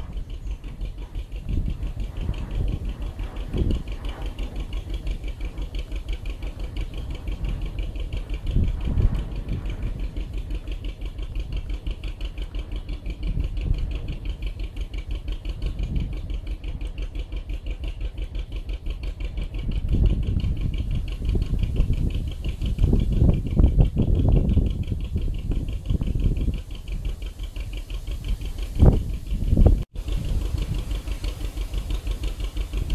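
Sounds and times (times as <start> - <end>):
diesel boat engine running: 0.0 - 32.9.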